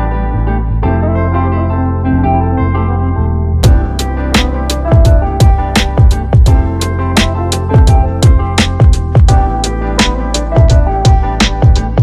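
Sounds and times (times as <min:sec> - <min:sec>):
calm background music: 0:00.0 - 0:12.0.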